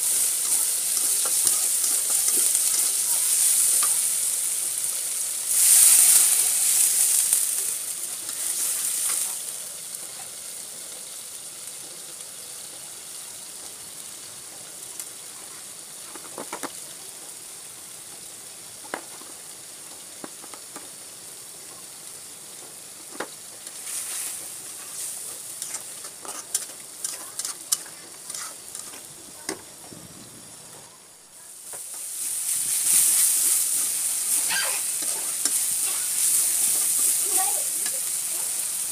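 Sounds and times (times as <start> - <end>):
onions sizzling in oil: 0.0 - 38.9.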